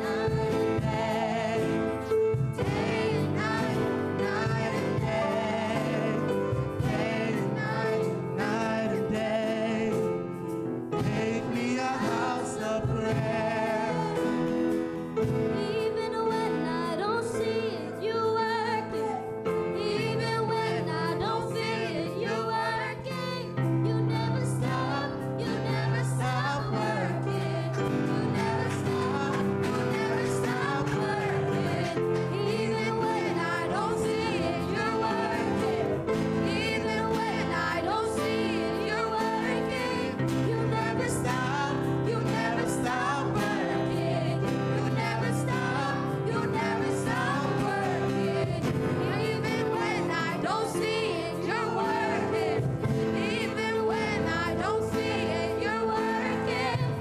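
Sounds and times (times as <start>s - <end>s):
gospel singing voices: 0.0s - 57.0s
held chords: 0.0s - 57.0s.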